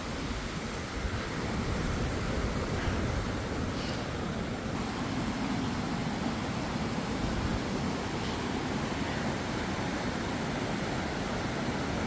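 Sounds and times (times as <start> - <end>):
water rushing over a waterfall: 0.0 - 12.0.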